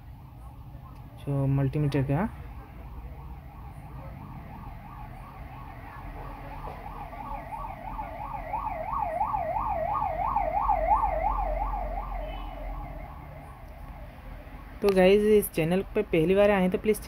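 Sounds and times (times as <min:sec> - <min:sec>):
emergency siren yelping: 0:00.0 - 0:14.8.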